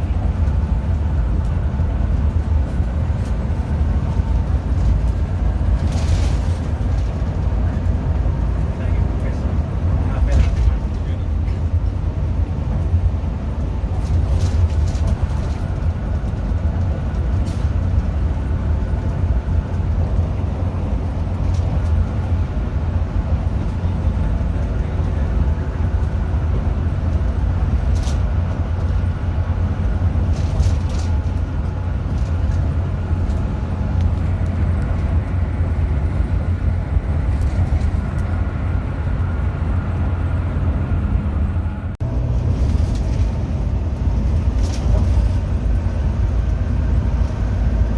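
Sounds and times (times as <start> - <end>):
diesel coach rumble: 0.0 - 47.9.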